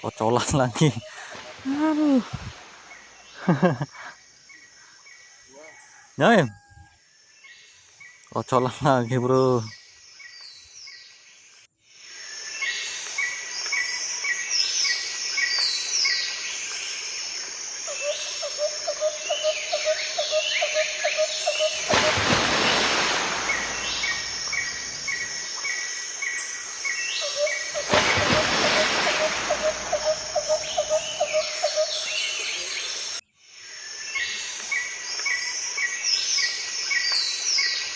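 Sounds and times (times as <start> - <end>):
insects and birds chirping: 0.0 - 37.9.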